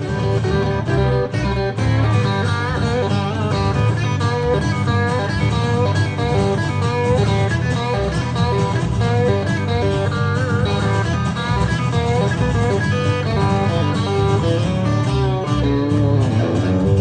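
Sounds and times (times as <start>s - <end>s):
bent guitar note: 0.0s - 17.0s
live band instrumental music: 0.0s - 17.0s.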